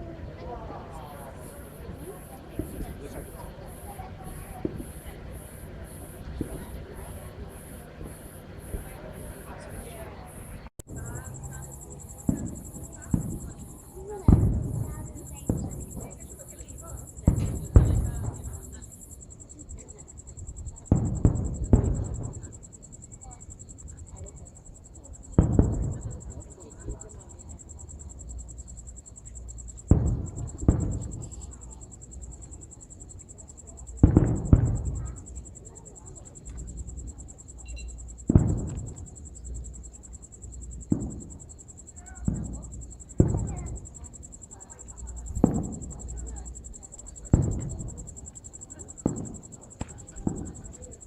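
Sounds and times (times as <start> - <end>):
fireworks booming: 0.0 - 51.0
insect trill: 0.0 - 51.0.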